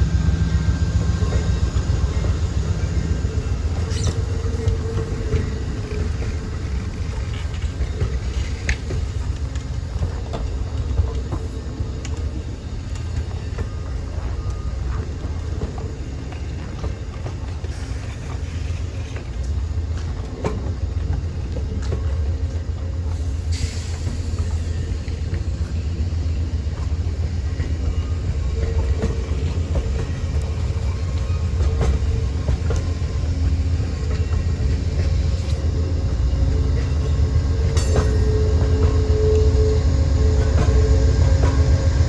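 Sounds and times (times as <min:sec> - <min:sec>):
freight train rumbling: 0:00.0 - 0:42.0
wheels clicking over rail joints: 0:00.3 - 0:39.5.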